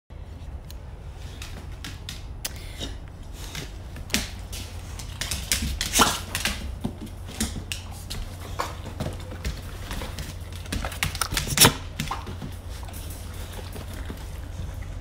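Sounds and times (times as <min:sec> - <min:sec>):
dog claws clicking on vinyl floor: 0:00.7 - 0:14.8.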